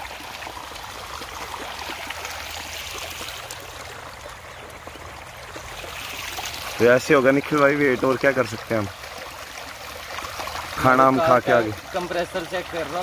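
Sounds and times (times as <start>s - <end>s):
stream trickling over stones: 0.0s - 13.0s.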